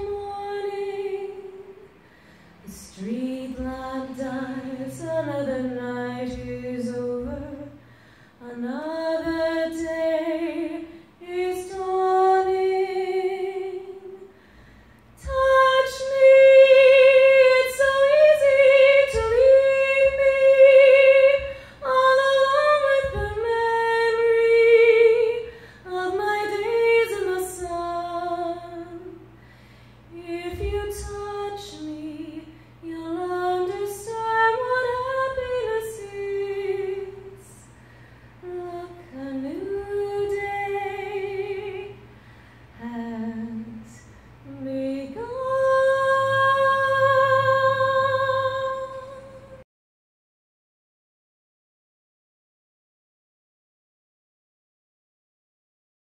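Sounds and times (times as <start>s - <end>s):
woman singing into a microphone: 0.0s - 2.0s, 2.6s - 14.3s, 15.2s - 29.2s, 30.1s - 37.7s, 38.4s - 42.1s, 42.8s - 49.6s.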